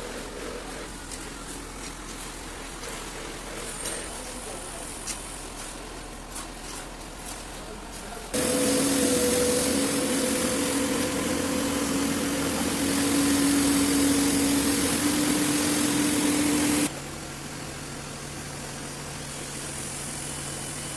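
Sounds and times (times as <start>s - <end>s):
machine engine humming: 0.0s - 20.9s.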